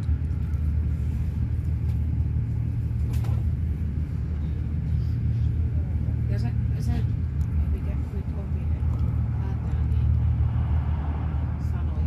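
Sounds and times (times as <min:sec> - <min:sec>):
passenger train rumbling: 0:00.0 - 0:12.0.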